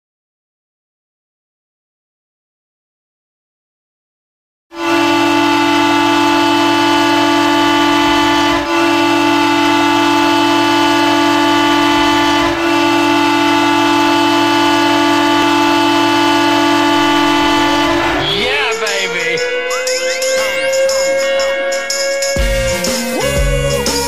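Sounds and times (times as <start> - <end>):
goal horn blasts: 4.7 - 24.0.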